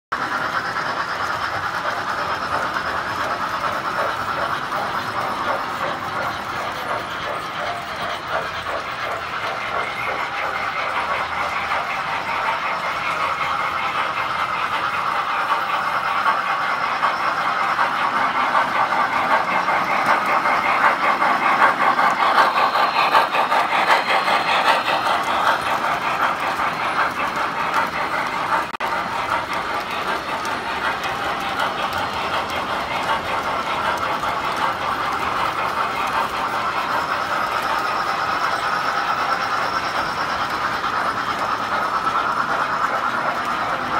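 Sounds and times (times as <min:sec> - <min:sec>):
toy trains rattling on track: 0:00.2 - 0:43.9.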